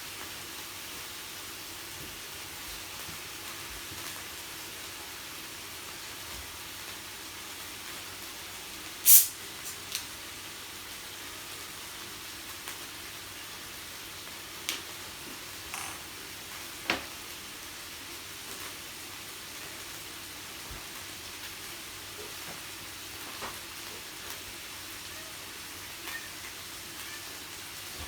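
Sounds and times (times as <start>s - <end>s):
meat sizzling on a grill: 0.0s - 28.0s.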